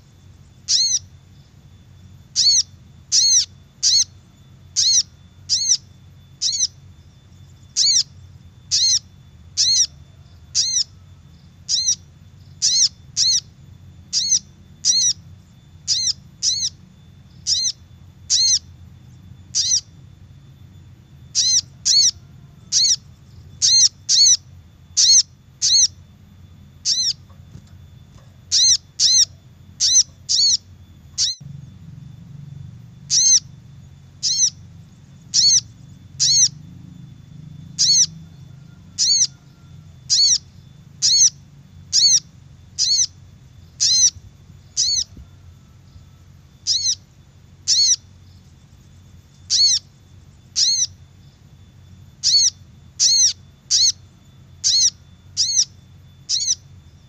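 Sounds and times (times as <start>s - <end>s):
bird calling high notes: 0.0s - 48.5s, 49.1s - 57.0s.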